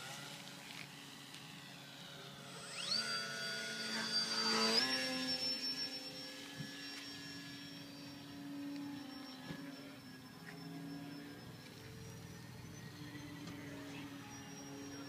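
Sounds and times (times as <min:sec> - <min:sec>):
motor and propeller whining: 0:00.0 - 0:15.0.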